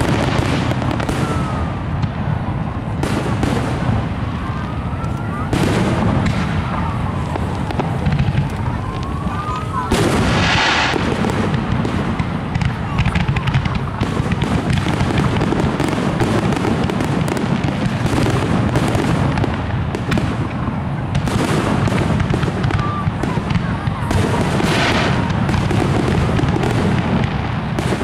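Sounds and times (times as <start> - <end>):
firework crackling: 0.0 - 28.0
fireworks banging: 0.0 - 28.0
loud hissing crackle: 0.0 - 28.0.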